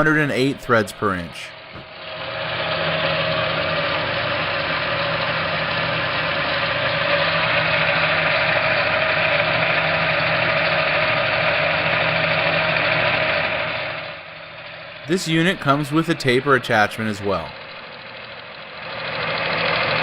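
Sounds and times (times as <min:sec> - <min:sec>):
lathe whirring with whine: 0:00.0 - 0:20.0.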